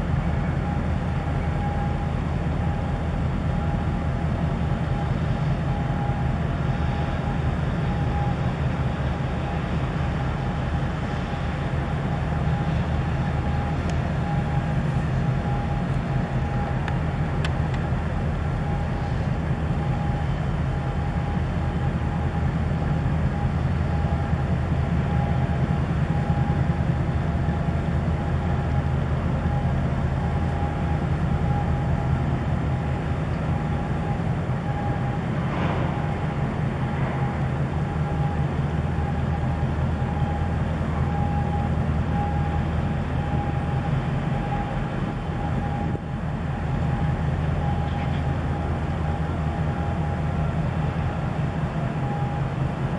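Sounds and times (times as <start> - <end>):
ship engine rumble: 0.0 - 52.9
thin steady whine: 0.0 - 52.9.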